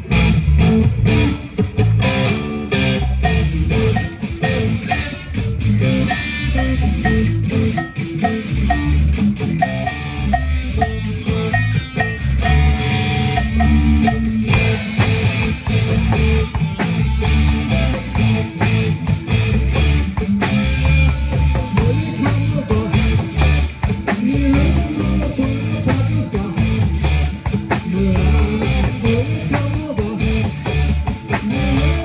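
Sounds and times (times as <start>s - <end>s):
bass guitar: 0.0s - 32.0s
drum kit: 0.0s - 32.0s
electric guitar: 0.0s - 32.0s.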